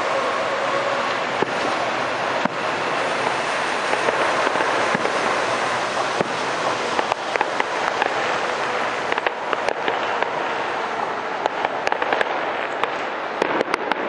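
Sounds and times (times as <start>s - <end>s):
fireworks bursting: 0.0s - 14.0s
sharp crackling pops: 1.0s - 14.0s.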